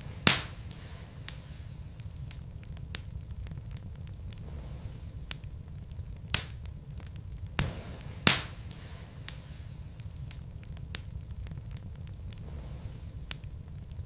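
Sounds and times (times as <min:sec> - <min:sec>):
fire crackling: 0:00.0 - 0:14.0
low fire rumble: 0:00.0 - 0:14.0
sharp pops: 0:00.0 - 0:14.0.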